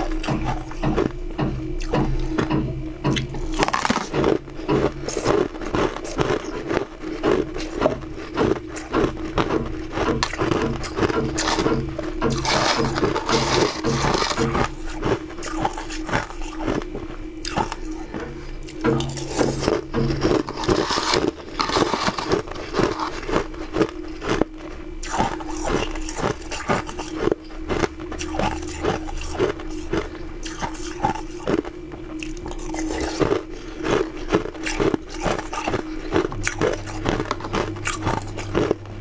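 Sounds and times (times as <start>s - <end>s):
ice being chewed: 0.0s - 39.0s.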